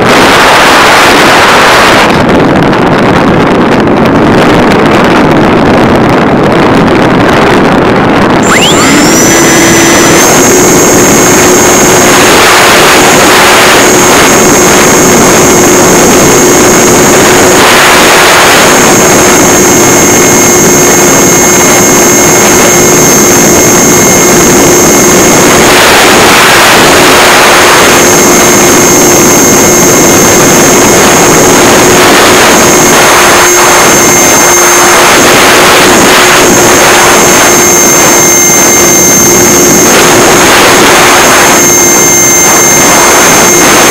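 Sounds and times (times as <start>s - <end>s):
electric motor and propeller: 0.0s - 43.9s
wind rushing over microphone: 0.0s - 43.9s.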